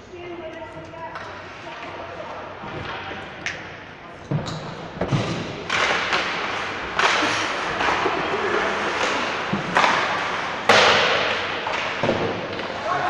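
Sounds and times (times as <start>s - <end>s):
hockey puck knocks echoing: 0.4s - 13.0s.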